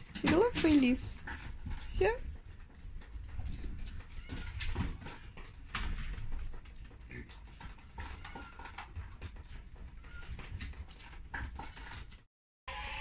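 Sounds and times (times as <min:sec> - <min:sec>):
paws clicking on wooden floor: 0:00.0 - 0:12.3.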